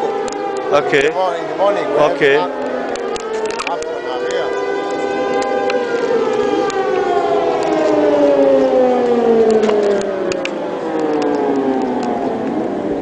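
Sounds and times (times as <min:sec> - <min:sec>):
air-raid siren: 0:00.0 - 0:13.0.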